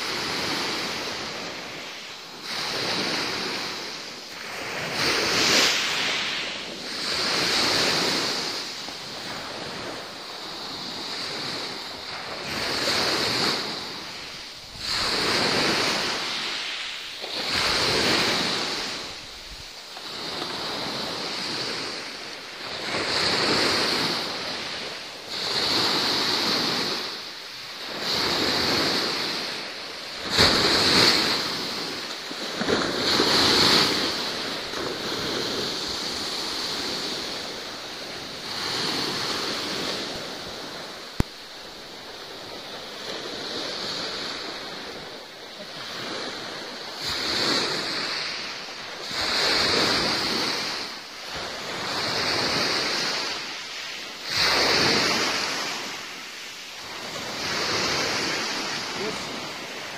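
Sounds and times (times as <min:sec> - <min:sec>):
sea waves surging: 0:00.0 - 0:59.9.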